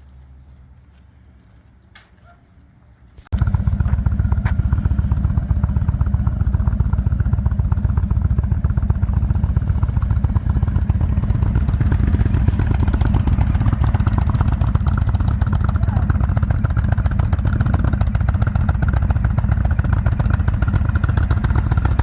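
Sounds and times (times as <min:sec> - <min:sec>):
motorcycle engine idling: 0:03.3 - 0:22.0.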